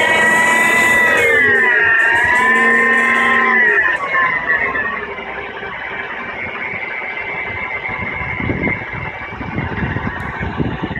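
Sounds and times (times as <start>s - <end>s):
car engine idling: 0.0s - 10.9s
low rumbles: 0.0s - 10.9s.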